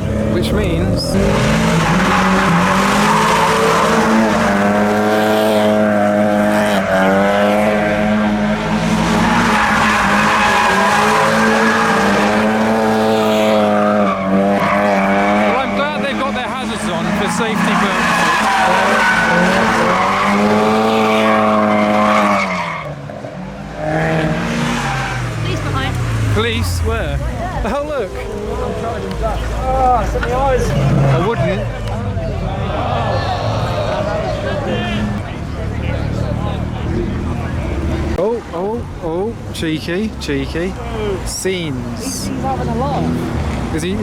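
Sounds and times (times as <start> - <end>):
car engine at high revs: 0.0 - 44.0
tyres skidding on road: 0.0 - 44.0.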